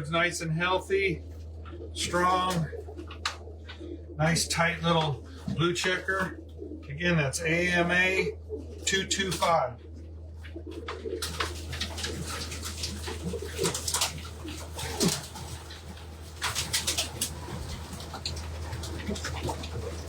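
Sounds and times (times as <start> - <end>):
pigeons cooing: 0.0 - 20.0
steady low hum: 0.0 - 20.0
birds scuffling and clicking: 1.2 - 7.0, 8.5 - 20.0.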